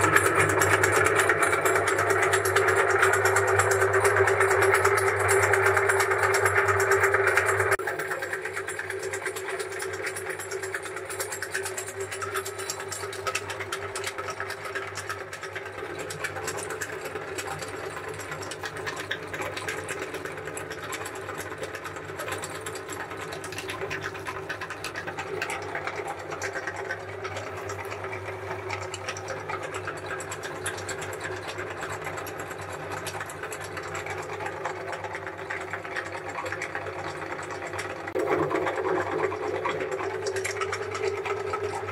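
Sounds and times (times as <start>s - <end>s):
meat grinder hum and clatter: 0.0s - 41.9s.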